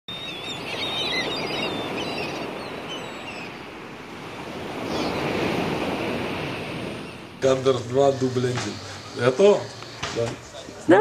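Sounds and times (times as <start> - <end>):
sea water rushing: 0.1 - 10.6
gulls calling: 0.1 - 11.0
wind: 0.1 - 11.0.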